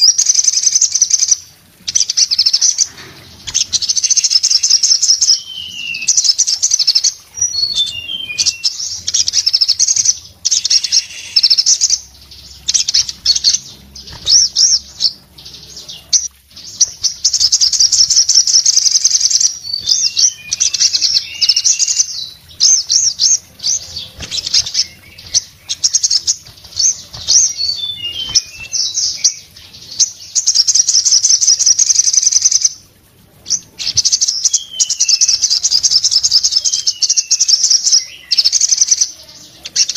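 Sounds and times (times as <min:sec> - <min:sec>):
bird singing rapid high trills: 0:00.0 - 0:39.9.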